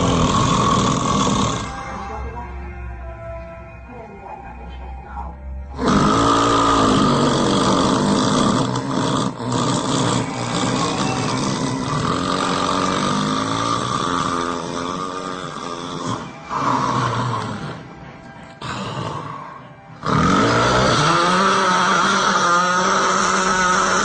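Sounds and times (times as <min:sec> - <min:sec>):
loud snoring: 0:00.0 - 0:01.9, 0:05.7 - 0:24.0.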